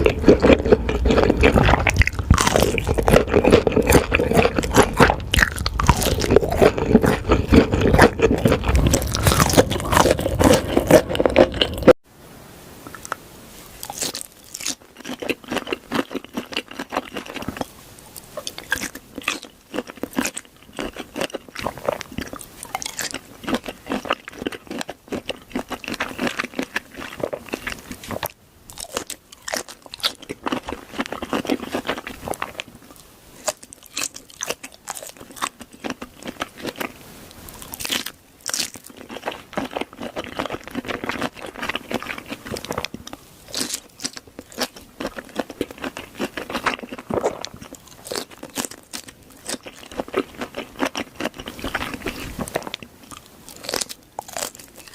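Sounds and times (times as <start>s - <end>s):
person chewing crunchy food: 0.0s - 12.0s, 13.8s - 54.9s.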